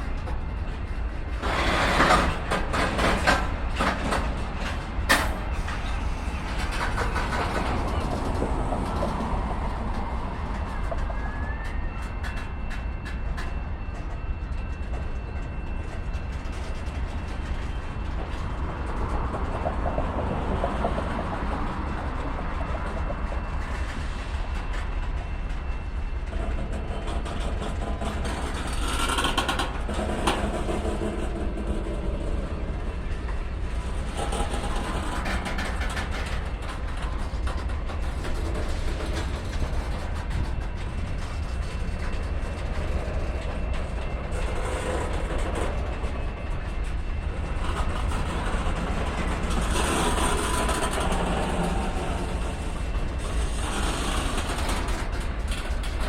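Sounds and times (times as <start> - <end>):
freight train rolling past: 0.0 - 56.0
wheels clicking on rails: 0.0 - 56.0.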